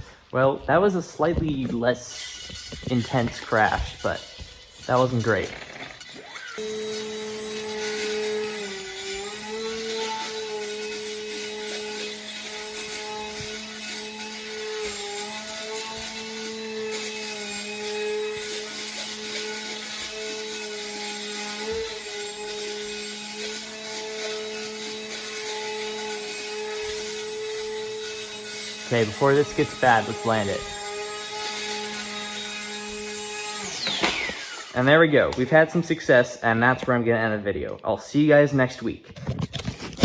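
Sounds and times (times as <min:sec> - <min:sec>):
toy plane motor buzzing: 0:02.1 - 0:34.9.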